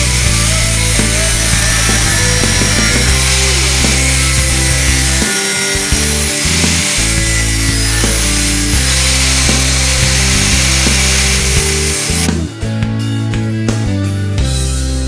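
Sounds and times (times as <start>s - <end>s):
angle grinder grinding metal: 0.0s - 12.5s
background music with bass line: 0.0s - 15.0s.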